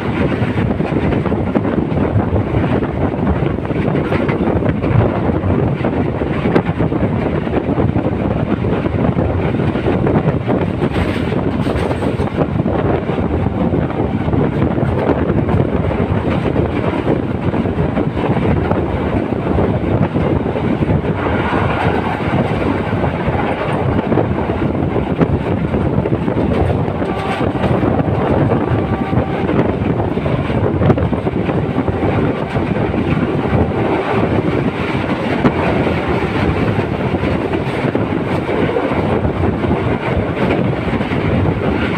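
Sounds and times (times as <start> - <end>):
train running on track: 0.0 - 41.9.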